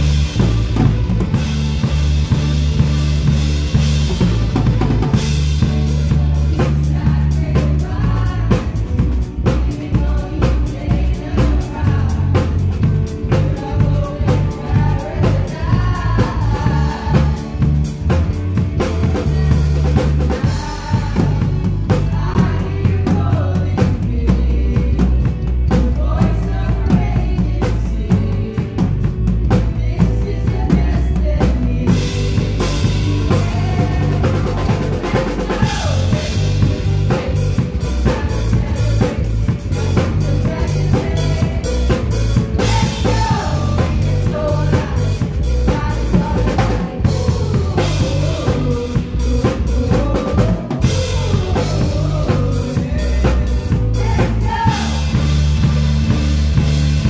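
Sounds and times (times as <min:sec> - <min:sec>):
bass and keyboard: 0:00.0 - 0:57.0
drum kit: 0:00.0 - 0:57.0
people singing into microphones: 0:05.1 - 0:55.8.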